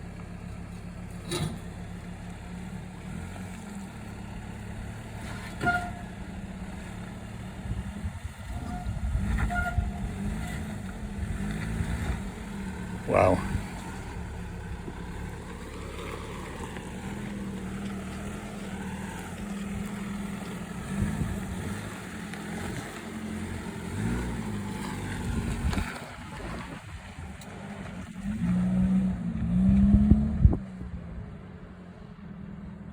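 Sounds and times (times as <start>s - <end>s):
truck engine revving under load: 1.1s - 31.3s.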